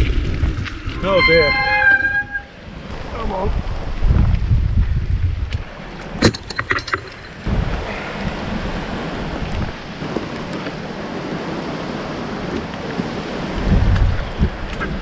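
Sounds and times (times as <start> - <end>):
mountain bike on muddy trail: 0.0 - 1.6, 2.9 - 15.0
rain: 0.0 - 2.0, 2.6 - 15.0
wind buffeting microphone: 0.0 - 15.0.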